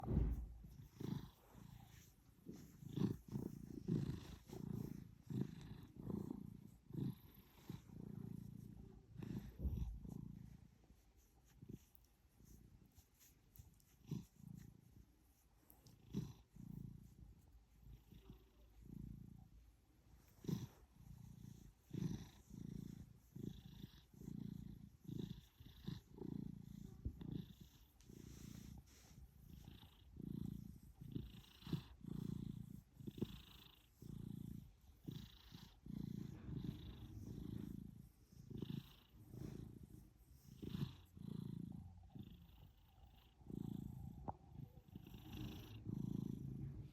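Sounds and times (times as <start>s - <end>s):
cat snoring softly: 0.0s - 10.7s, 17.8s - 19.6s, 20.2s - 46.9s.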